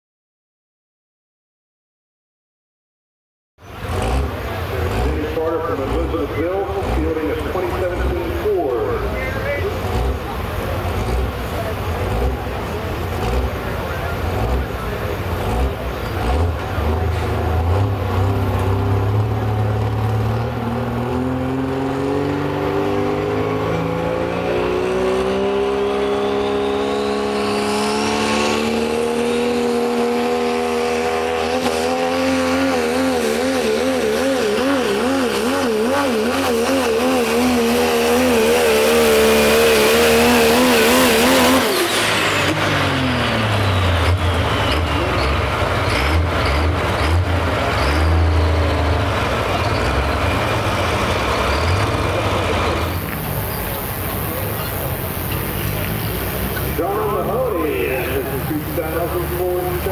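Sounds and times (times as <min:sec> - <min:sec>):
diesel truck engine revving: 0:03.6 - 0:59.9
high engine whine: 0:03.6 - 0:59.9.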